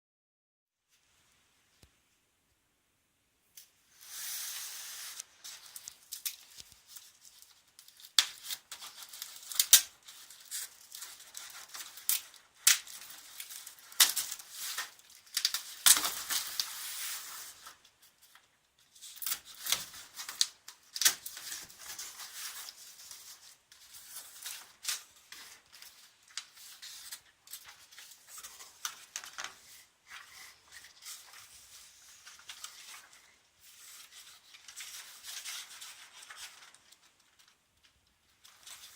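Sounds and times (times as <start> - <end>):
packaging rustling and tearing: 4.0 - 18.4, 19.0 - 38.9.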